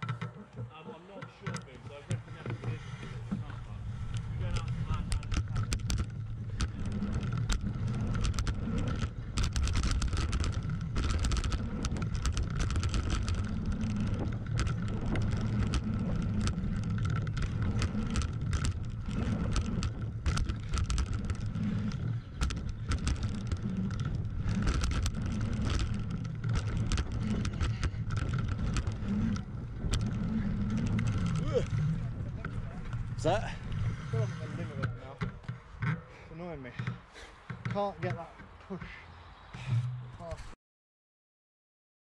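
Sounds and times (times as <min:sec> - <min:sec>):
bike rattling and clacking: 0:00.0 - 0:39.0
tyres rolling on dirt: 0:00.0 - 0:40.5.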